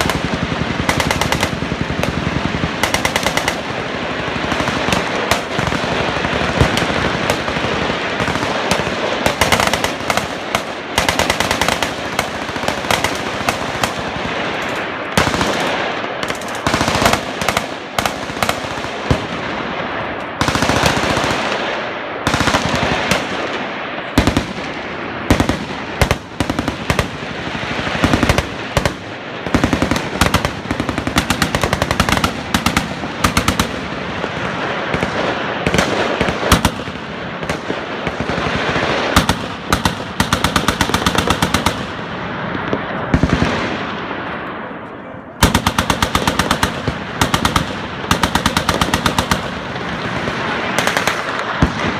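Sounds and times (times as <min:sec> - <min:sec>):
machine guns firing: 0:00.0 - 0:44.0, 0:45.4 - 0:51.9.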